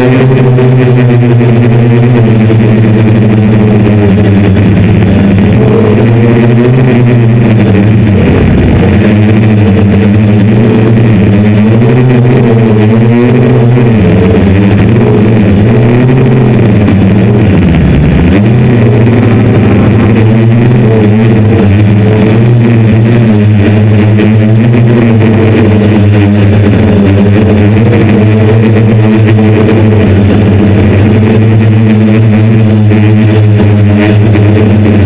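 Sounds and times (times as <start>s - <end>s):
drone motors buzzing: 0.0s - 35.0s.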